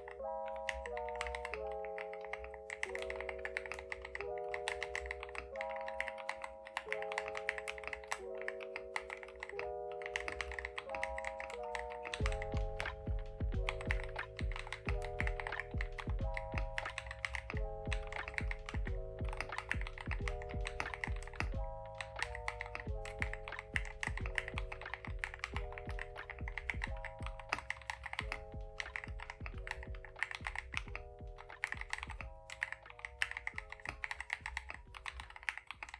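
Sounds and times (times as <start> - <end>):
mechanical keyboard typing: 0.0 - 35.9
soft background music chords: 0.0 - 35.9.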